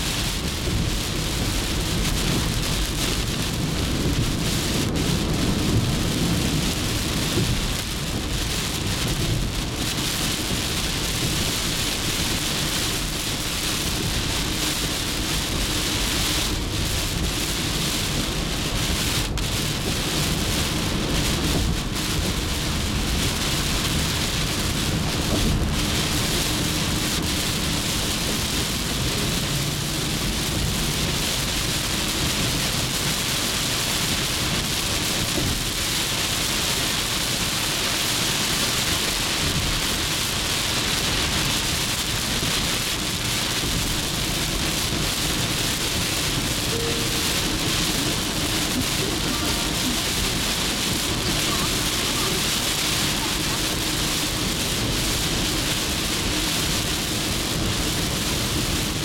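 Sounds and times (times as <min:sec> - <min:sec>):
heavy rain on car roof: 0:00.0 - 0:59.0
tyres hissing on wet road: 0:00.0 - 0:59.0.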